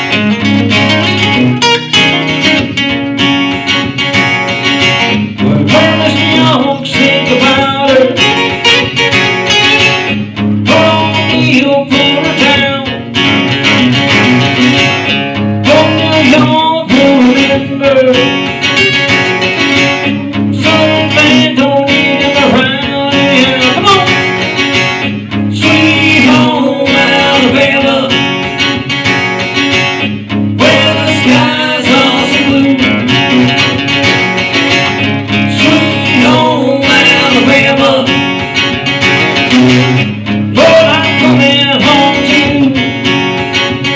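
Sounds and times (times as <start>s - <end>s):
acoustic guitar strumming: 0.0s - 43.9s
person singing country style: 0.0s - 43.9s.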